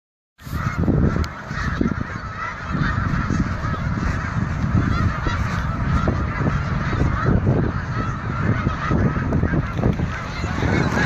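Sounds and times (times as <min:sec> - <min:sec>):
geese honking: 0:00.4 - 0:11.0.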